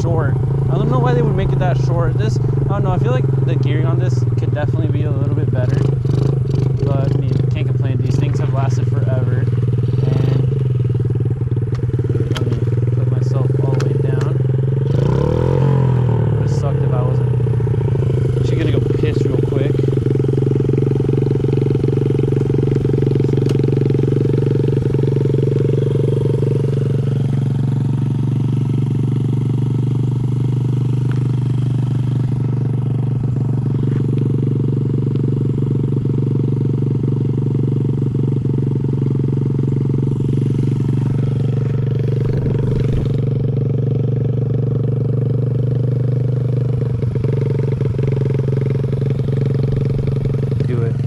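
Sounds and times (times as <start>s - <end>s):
small motorcycle engine running: 0.0s - 51.0s.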